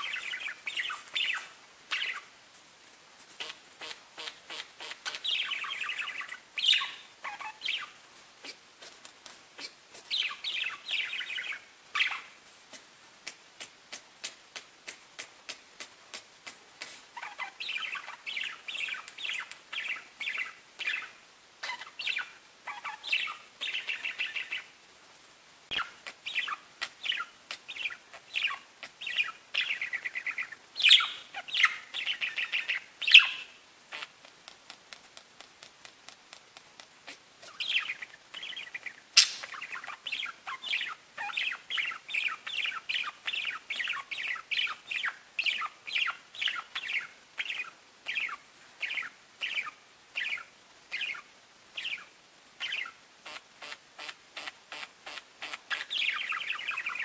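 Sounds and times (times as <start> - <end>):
budgerigars chirping and warbling: 0.0 - 2.3, 3.4 - 8.6, 9.6 - 12.4, 15.2 - 24.7, 25.7 - 34.3, 37.0 - 57.0.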